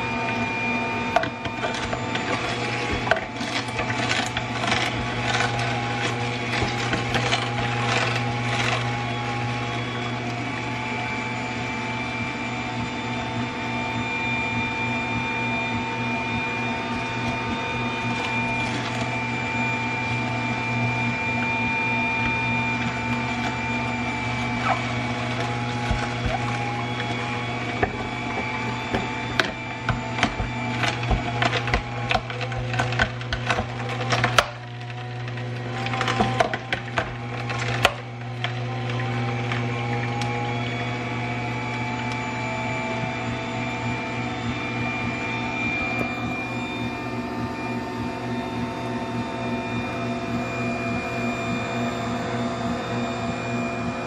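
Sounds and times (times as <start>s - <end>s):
juicer motor hum and whine: 0.0s - 54.0s.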